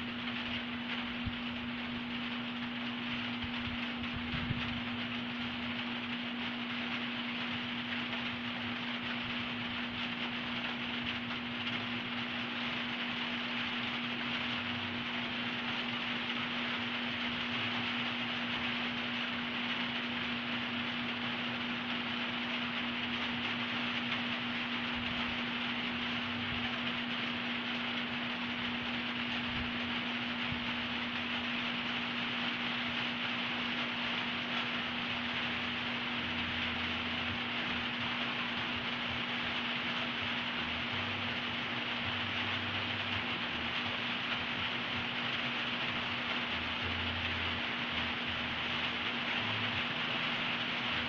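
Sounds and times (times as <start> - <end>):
room noise hiss: 0.0 - 51.0
steady hum: 0.0 - 51.0.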